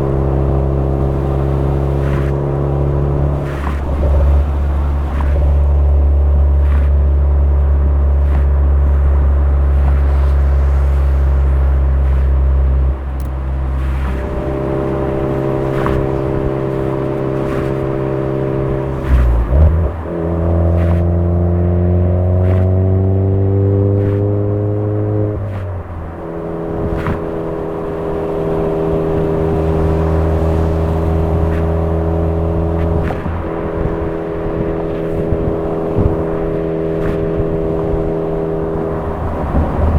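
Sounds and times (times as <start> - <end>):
car exhaust note: 0.0 - 39.9.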